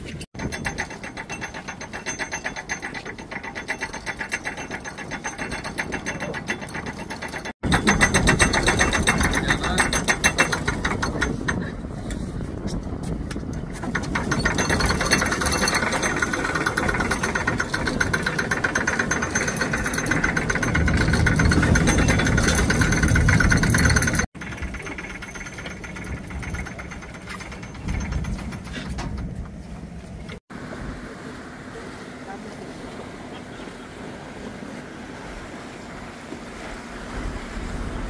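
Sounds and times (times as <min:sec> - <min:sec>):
engine running steadily: 0:00.1 - 0:38.0.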